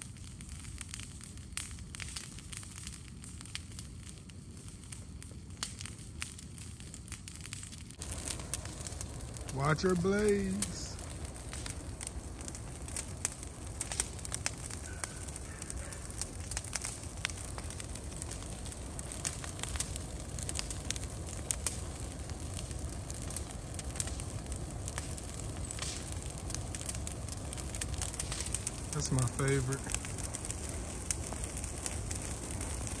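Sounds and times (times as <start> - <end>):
fire crackling and popping: 0.0 - 33.0
low rumble of flame: 0.0 - 33.0.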